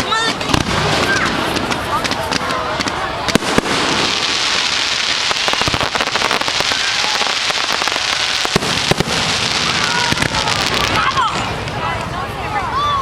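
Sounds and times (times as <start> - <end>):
firework bangs: 0.0 - 12.2
fireworks crackling: 0.0 - 13.0.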